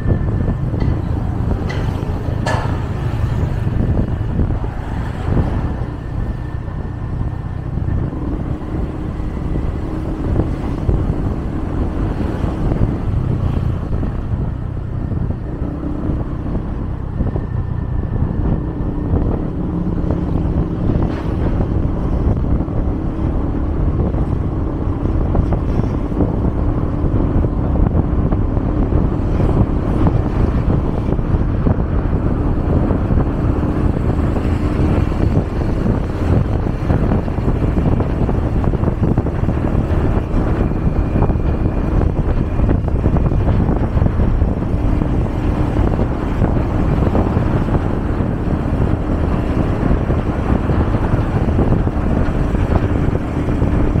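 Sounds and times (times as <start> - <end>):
faint engine hum: 0.0 - 54.0
vehicle road noise: 0.0 - 54.0
wind buffeting microphone: 0.0 - 54.0.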